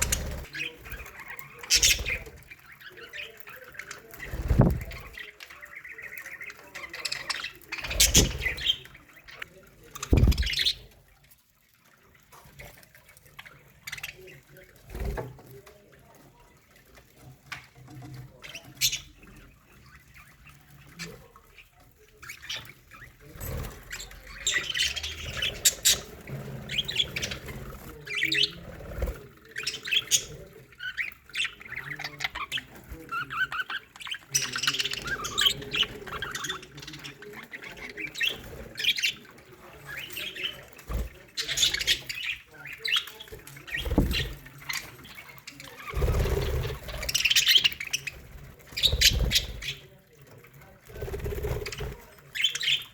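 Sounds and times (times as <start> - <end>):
budgerigars chirping: 0.0 - 11.0, 18.0 - 49.9, 52.3 - 52.9.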